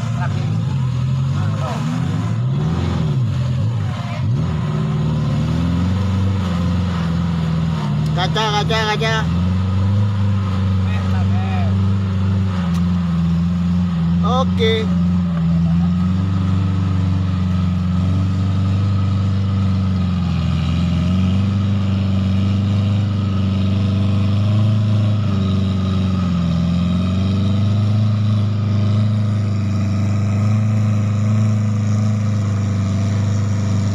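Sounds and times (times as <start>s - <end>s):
car engine droning under load: 0.0s - 33.9s.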